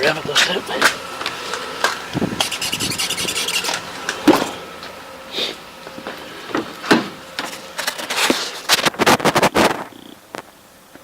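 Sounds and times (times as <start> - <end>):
starter motor cranking engine: 0.0 - 10.6.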